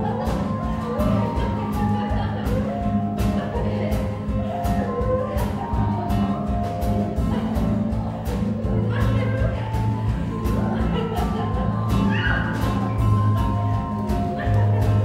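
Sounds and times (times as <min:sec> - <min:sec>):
band music with drum beat: 0:00.0 - 0:15.0.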